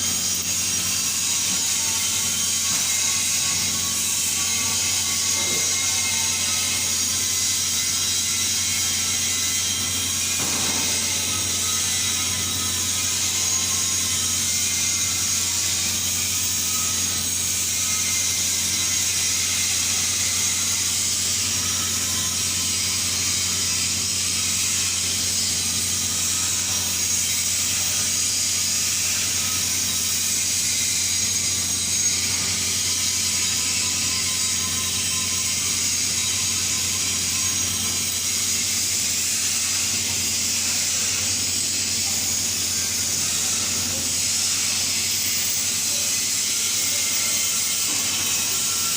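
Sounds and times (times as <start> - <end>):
welding arc hissing: 0.0 - 48.9.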